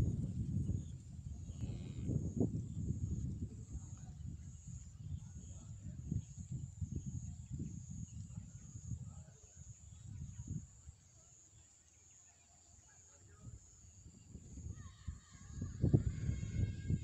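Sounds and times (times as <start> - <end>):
low rumbling on microphone: 0.0 - 10.9, 13.4 - 17.0.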